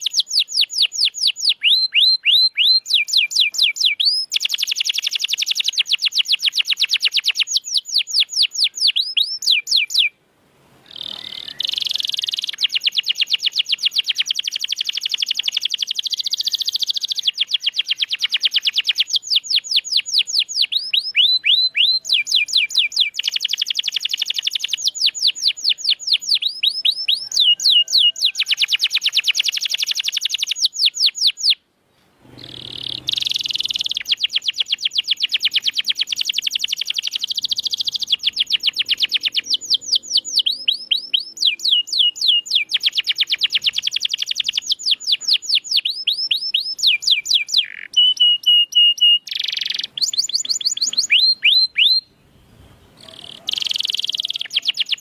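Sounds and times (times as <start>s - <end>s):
canary singing trills: 0.0s - 10.2s, 10.8s - 31.6s, 32.3s - 55.0s.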